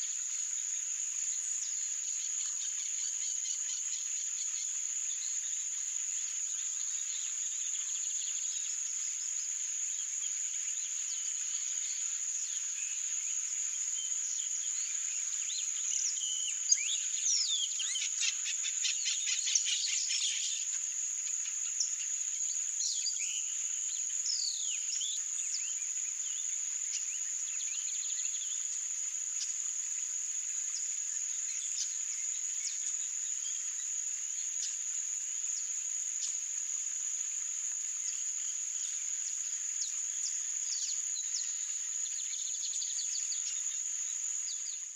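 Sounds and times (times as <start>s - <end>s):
insect trill: 0.0s - 44.9s.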